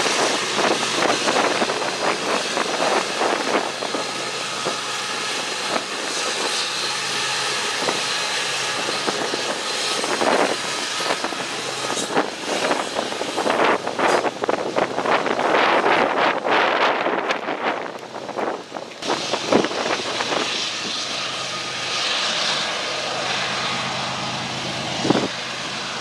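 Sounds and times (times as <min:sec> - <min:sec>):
diesel locomotives humming: 0:00.0 - 0:26.0
wind buffeting microphone: 0:00.0 - 0:26.0.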